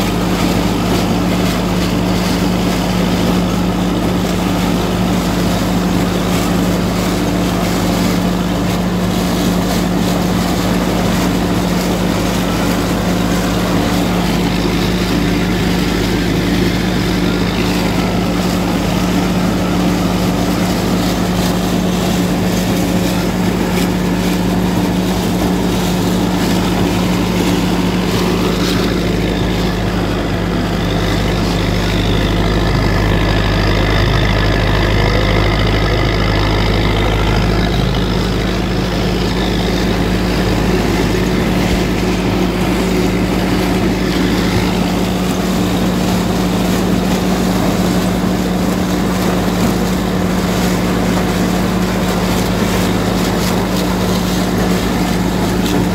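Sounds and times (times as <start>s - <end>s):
corn picker machinery running: 0.0s - 55.9s
tractor diesel engine under load: 0.0s - 55.9s.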